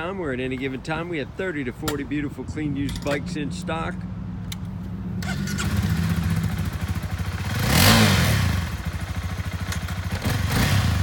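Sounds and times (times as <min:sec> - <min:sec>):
motorcycle engine idling and revving: 0:01.6 - 0:11.0.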